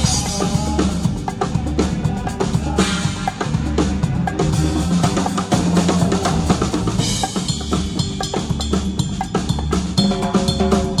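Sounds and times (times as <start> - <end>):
conga drums played: 0.0 - 11.0
live band music: 0.0 - 11.0.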